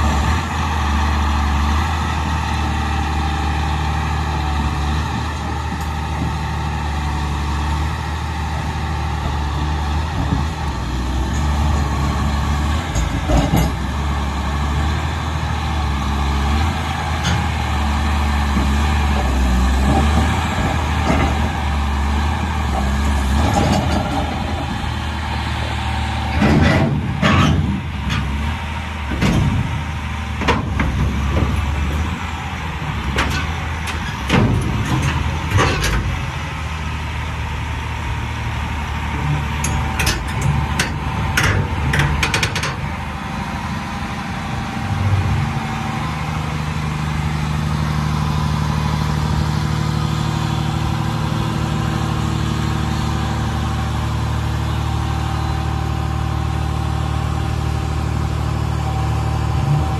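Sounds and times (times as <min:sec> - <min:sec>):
excavator diesel engine running: 0:00.0 - 0:59.9
steel tracks and bucket clanking on rock: 0:01.8 - 0:37.4, 0:38.2 - 0:53.8.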